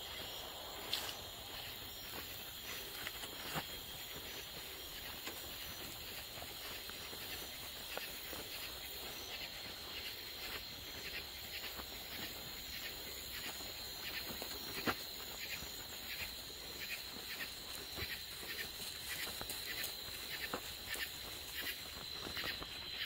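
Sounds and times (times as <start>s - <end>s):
crickets trilling: 0.0s - 23.0s
footsteps on dirt trail: 0.0s - 23.0s.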